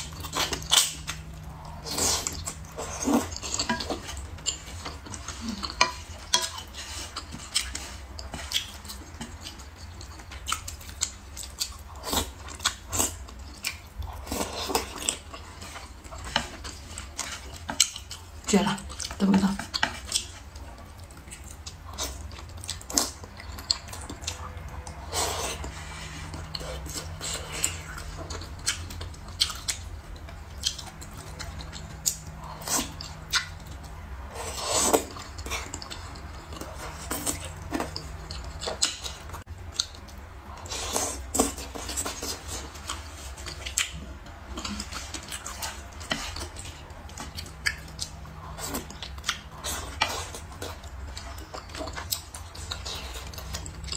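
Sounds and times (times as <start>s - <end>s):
person chewing: 0.0s - 53.9s.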